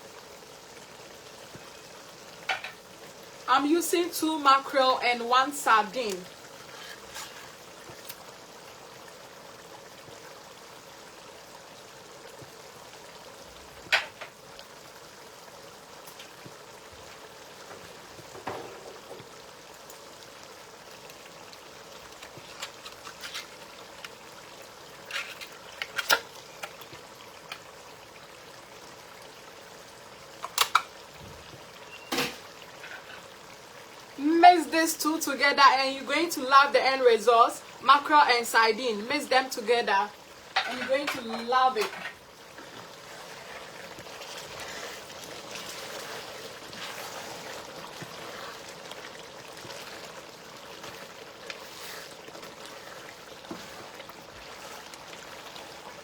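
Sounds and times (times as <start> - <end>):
stew simmering in a pot: 0.0 - 56.0.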